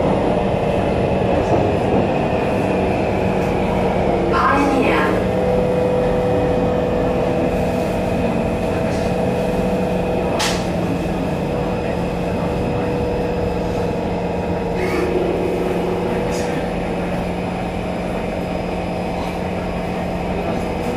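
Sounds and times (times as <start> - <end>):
train interior rumble: 0.0 - 20.9.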